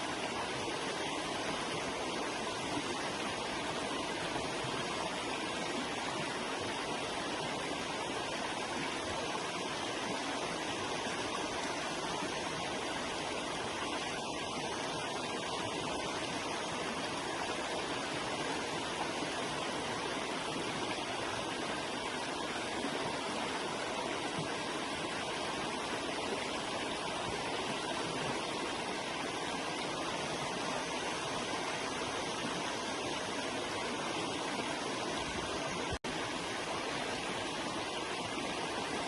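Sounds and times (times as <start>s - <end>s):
river flowing over rocks: 0.0s - 39.0s.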